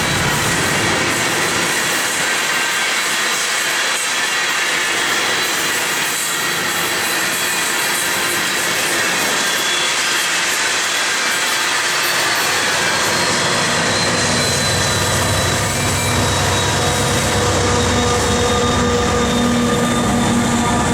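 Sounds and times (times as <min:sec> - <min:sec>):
train cars rolling on rails: 0:00.0 - 0:20.9.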